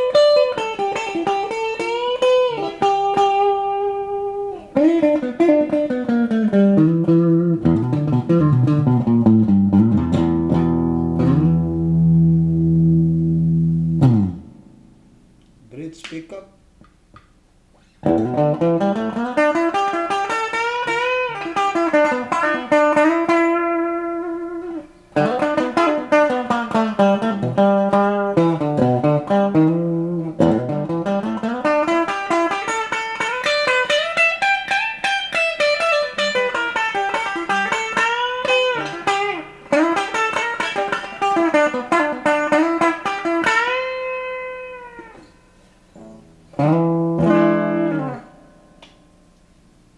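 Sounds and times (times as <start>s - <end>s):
clean electric guitar playing: 0.0s - 15.9s, 18.0s - 49.4s.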